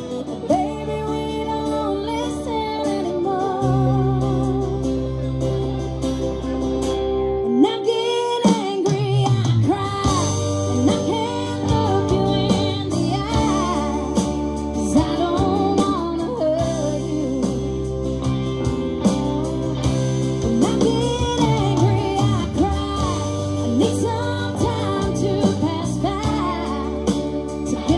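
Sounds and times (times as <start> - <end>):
person singing: 0.0 - 5.6, 7.4 - 18.2, 19.1 - 27.9
bass guitar: 0.0 - 27.9
drums: 0.0 - 27.9
guitars playing: 0.0 - 27.9.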